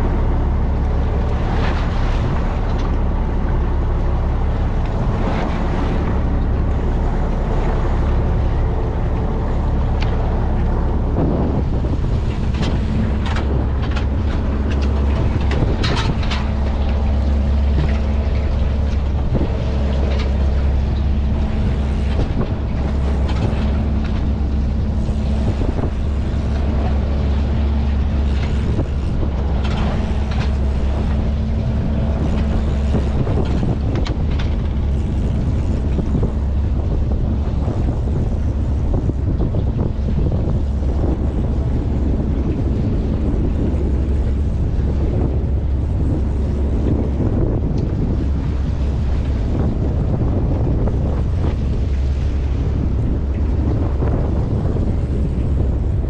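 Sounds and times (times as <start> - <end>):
boat engine droning: 0.0 - 56.0
wind on microphone: 0.0 - 56.0.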